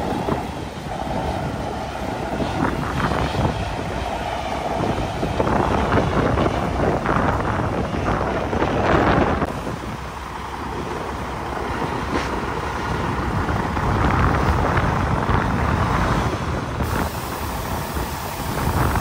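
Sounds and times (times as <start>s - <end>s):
diesel truck engine rumbling: 0.0s - 19.0s
wind buffeting microphone: 0.0s - 19.0s.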